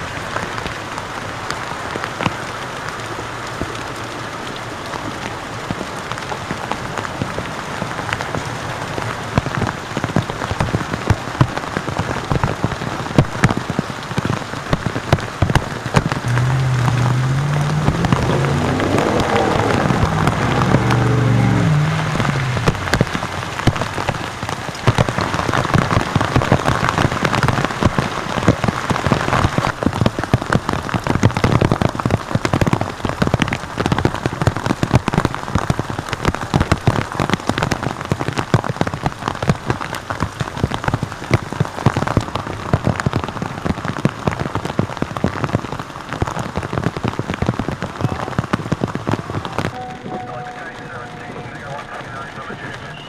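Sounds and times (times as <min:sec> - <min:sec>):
heavy rain on a hard surface: 0:00.0 - 0:53.0.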